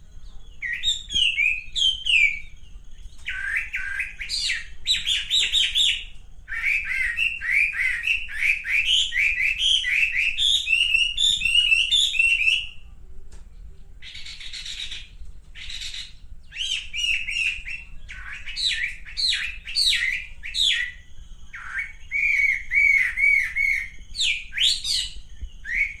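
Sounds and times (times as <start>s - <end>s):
bird singing chirpy notes: 0.0s - 12.9s, 14.0s - 26.0s
faint low hum: 0.0s - 26.0s.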